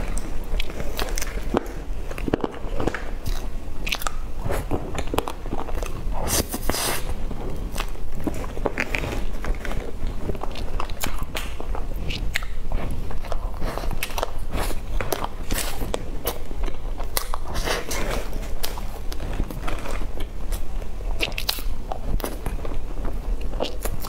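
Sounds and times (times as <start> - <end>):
person chewing cake: 0.0 - 24.0.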